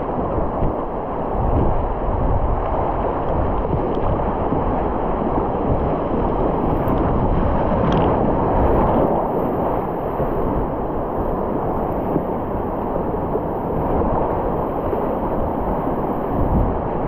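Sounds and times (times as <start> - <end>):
waves splashing: 0.0 - 17.0.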